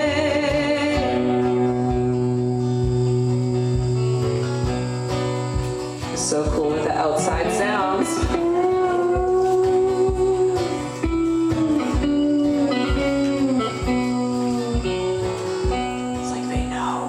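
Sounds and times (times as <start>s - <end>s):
sliding guitar notes: 0.0s - 17.0s
steady drum beat: 2.8s - 17.0s.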